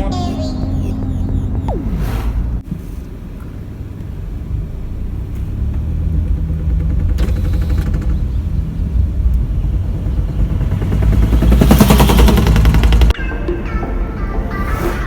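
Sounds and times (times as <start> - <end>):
truck diesel engine rumbling: 0.0 - 14.2.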